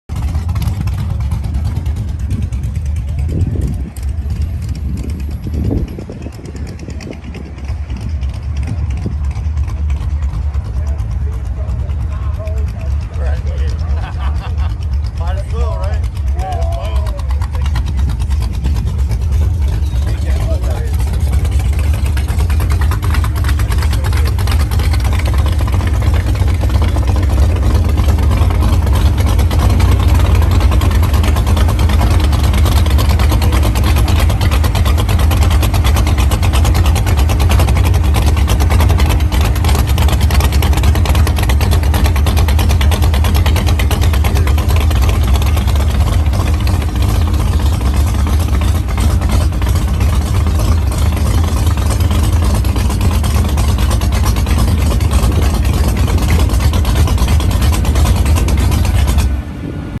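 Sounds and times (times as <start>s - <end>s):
car engine with popping exhaust: 0.0s - 60.0s.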